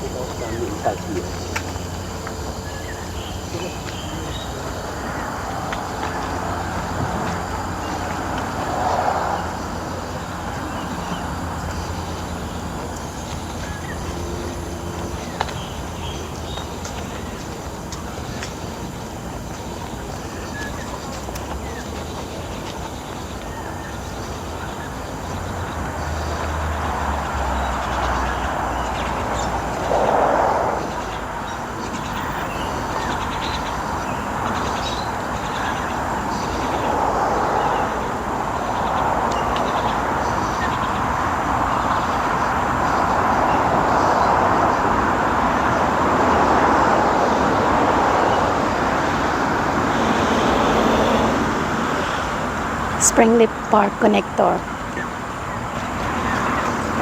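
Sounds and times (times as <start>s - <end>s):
vehicle passing: 0.0s - 18.4s, 24.4s - 57.0s
road traffic rushing: 0.0s - 57.0s.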